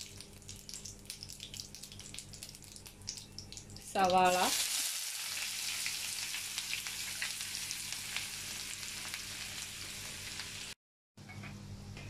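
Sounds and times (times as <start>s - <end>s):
onions sizzling in hot oil: 0.0s - 10.8s.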